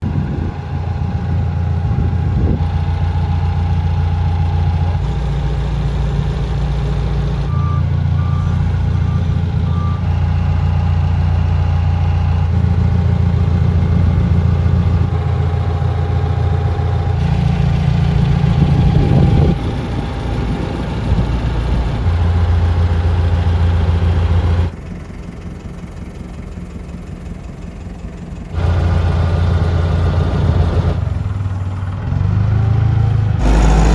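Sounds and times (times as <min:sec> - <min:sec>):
forklift engine running: 0:00.0 - 0:33.9.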